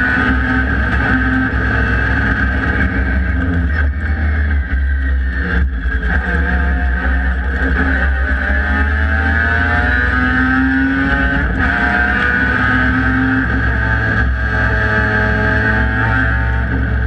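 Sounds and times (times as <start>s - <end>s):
race car engines roaring: 0.0s - 17.0s.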